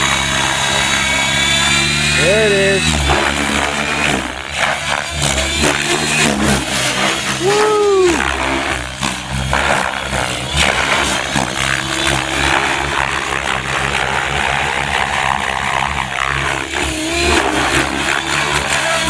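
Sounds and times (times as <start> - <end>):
helicopter drive humming: 0.0 - 19.0
model helicopter rotor whooshing: 0.0 - 19.0.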